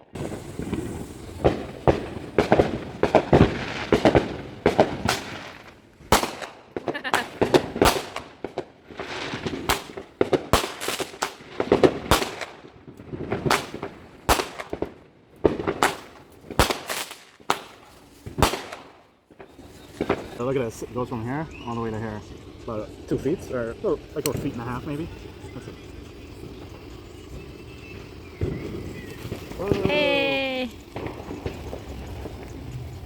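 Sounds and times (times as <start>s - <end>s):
fireworks cracking and popping: 0.0s - 33.0s.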